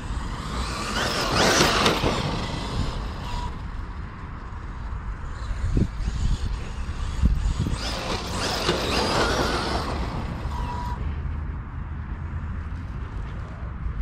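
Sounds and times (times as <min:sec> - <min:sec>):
rc truck motor whine: 0:00.0 - 0:11.2
wind rumble on microphone: 0:00.0 - 0:14.0.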